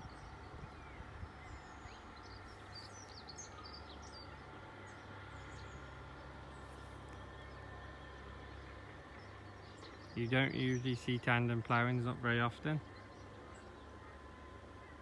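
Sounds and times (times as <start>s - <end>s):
birds chirping: 0.0s - 15.0s
distant tractors droning: 0.0s - 15.0s.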